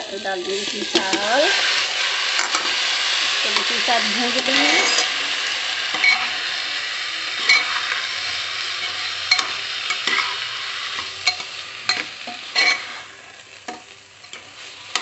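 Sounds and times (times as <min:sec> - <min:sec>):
rice and vegetables sizzling in oil: 0:00.0 - 0:15.0.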